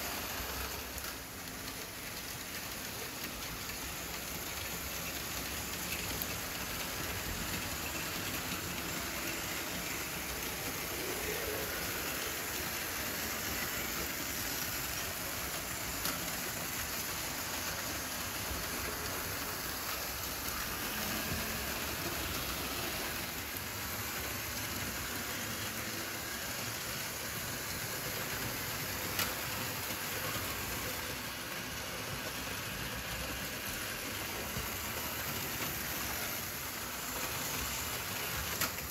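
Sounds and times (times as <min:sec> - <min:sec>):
model train wheels rattling: 0:00.0 - 0:38.9.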